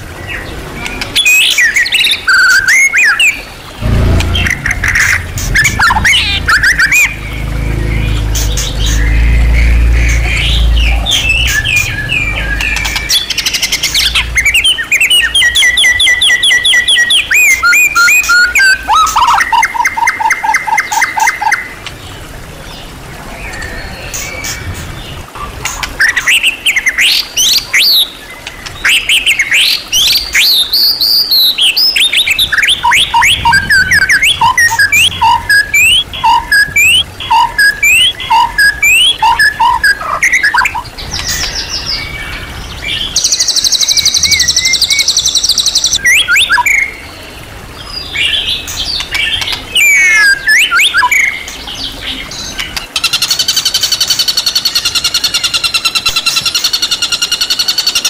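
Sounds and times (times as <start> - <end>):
songbird singing varied song: 0.2 - 21.6, 26.1 - 47.1, 47.8 - 58.0.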